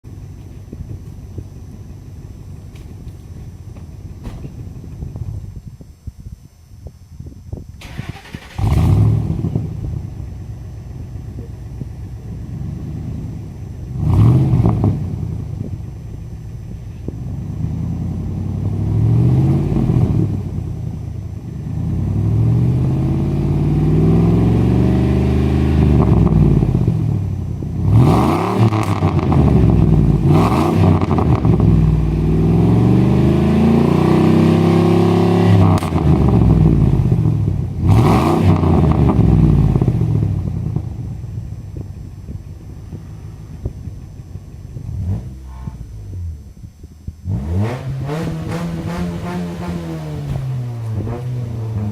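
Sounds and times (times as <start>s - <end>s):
truck engine idling and revving: 0.0s - 5.7s, 7.9s - 51.9s.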